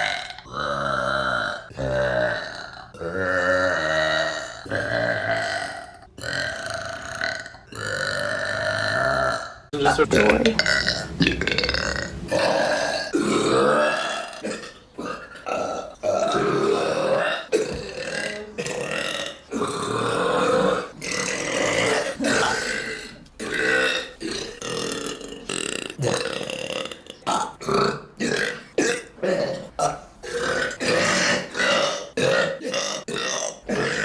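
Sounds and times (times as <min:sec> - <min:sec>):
woman belching: 0:00.0 - 0:34.0.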